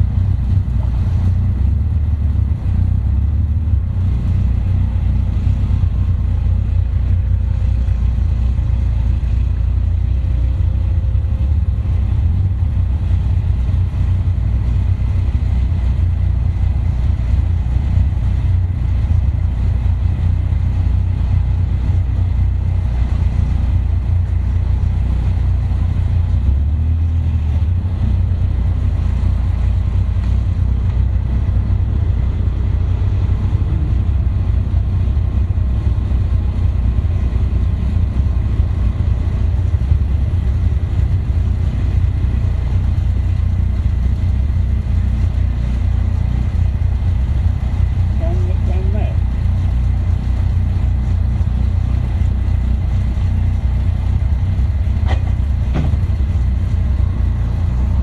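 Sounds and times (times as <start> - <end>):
sports car engine low rumble: 0.0 - 58.0.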